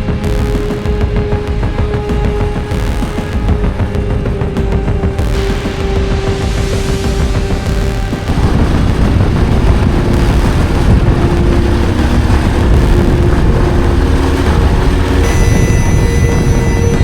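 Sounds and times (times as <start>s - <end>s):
motorcycle engine rumbling: 0.1s - 17.0s.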